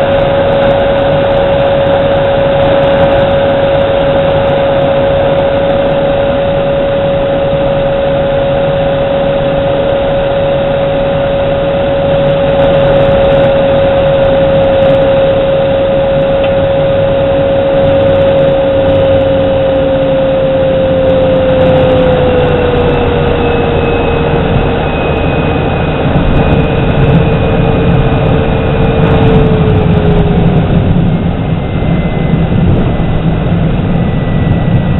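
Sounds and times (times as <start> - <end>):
low rumble of wheels on runway: 0.0 - 34.9
propeller plane engine droning: 0.0 - 34.9.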